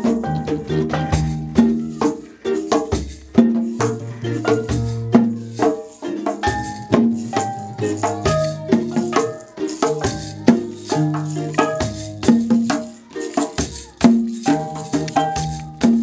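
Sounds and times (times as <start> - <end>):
plucked harp melody: 0.0 - 2.7, 3.3 - 13.4, 14.3 - 16.0
shaker rattle: 0.0 - 16.0.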